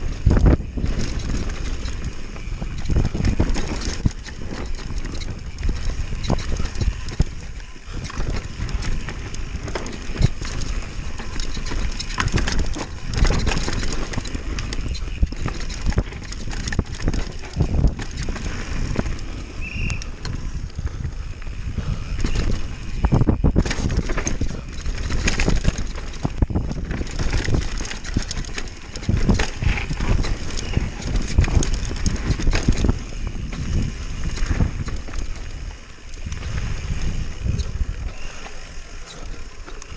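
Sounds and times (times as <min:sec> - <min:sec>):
mountain bike rattling on trail: 0:00.0 - 0:39.9.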